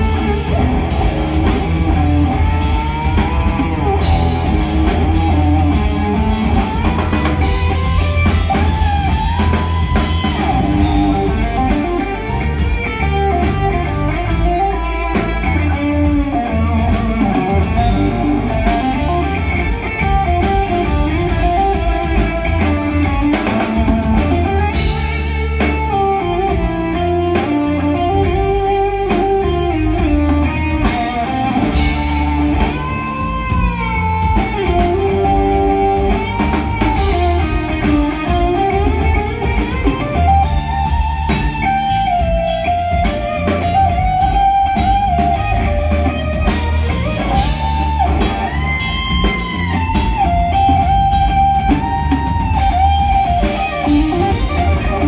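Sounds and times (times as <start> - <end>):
bass: 0.0 - 55.0
drum kit: 0.0 - 55.0
electric guitar lead melody: 0.0 - 55.0.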